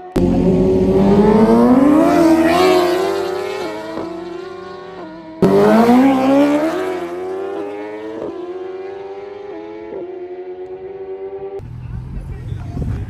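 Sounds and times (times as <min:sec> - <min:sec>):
motorcycle engines accelerating: 0:00.0 - 0:12.0.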